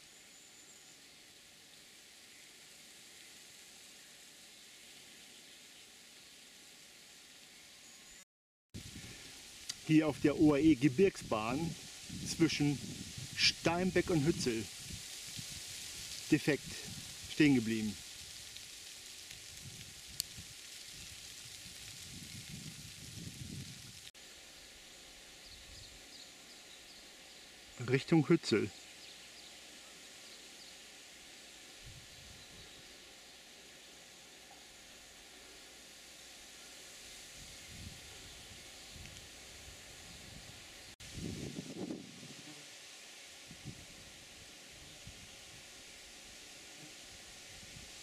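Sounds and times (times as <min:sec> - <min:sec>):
faint steady hiss: 0:00.0 - 0:08.2, 0:08.8 - 0:48.0.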